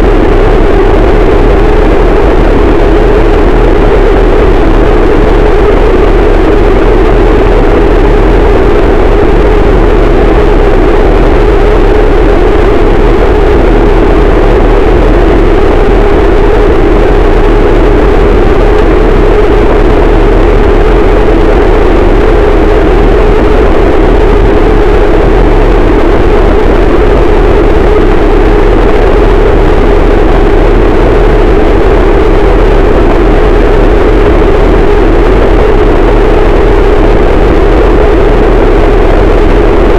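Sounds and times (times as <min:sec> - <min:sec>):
heavily distorted noise wall: 0:00.0 - 0:39.9.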